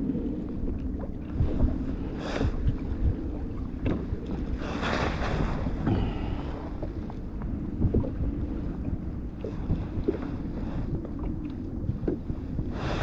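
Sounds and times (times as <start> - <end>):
waves lapping at a hull: 0.0 - 13.0
wind buffeting microphone: 0.0 - 13.0.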